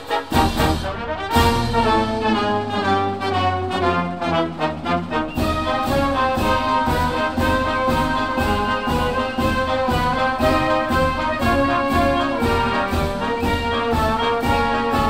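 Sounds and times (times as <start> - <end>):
brass instrumental music: 0.0 - 15.0
steady beat: 0.0 - 15.0.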